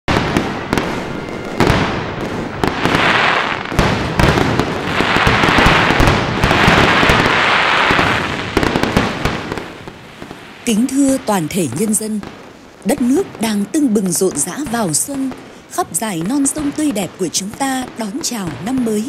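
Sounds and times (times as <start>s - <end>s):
firework bangs: 0.1s - 19.0s
firework crackling: 0.1s - 19.0s.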